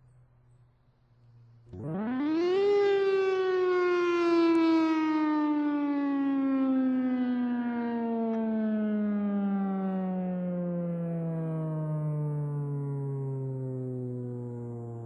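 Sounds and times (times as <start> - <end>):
warning siren winding down: 1.6 - 15.0.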